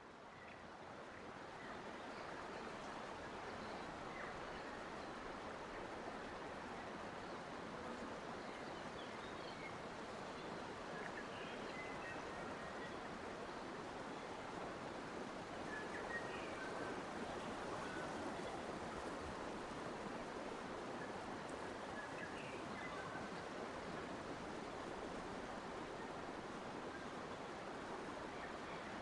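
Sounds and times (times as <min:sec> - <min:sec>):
flowing water: 0:00.0 - 0:29.0.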